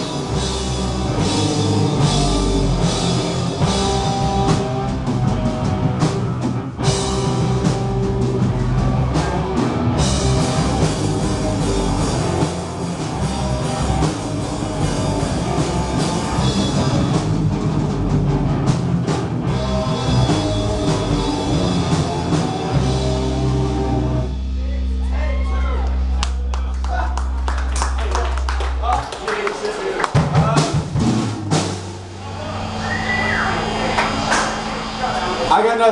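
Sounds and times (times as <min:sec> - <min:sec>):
punk rock band playing: 0:00.0 - 0:35.9.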